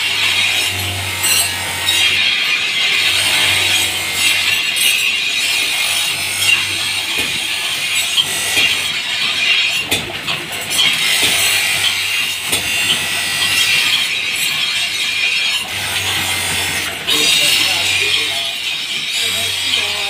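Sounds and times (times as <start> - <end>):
blade grinding on grinding wheel: 0.0 - 20.0
grinder motor hum: 0.0 - 20.0.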